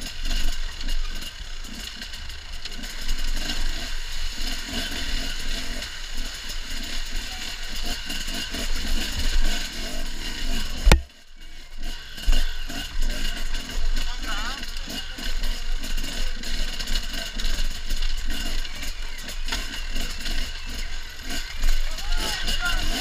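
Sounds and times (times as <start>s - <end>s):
motorcycle engine revving: 0.0s - 23.0s
motorcycle knocking and scraping on rock: 0.0s - 23.0s.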